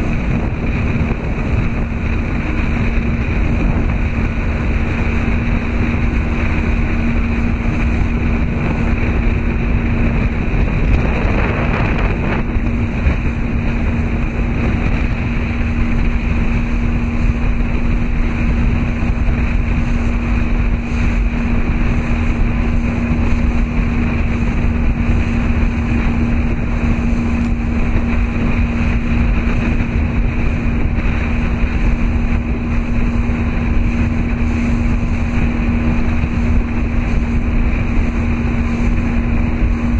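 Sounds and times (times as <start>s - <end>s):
motorboat engine droning: 0.0s - 39.9s
water noise: 0.0s - 39.9s
wind: 0.0s - 39.9s.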